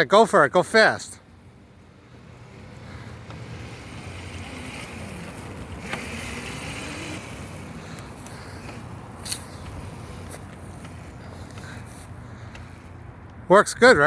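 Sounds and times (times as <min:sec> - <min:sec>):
electric dirt bike riding off: 0:01.2 - 0:13.2.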